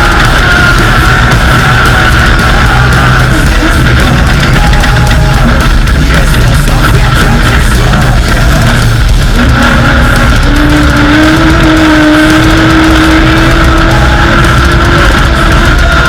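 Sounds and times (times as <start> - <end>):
race vehicle engine at high revs: 0.0 - 16.0.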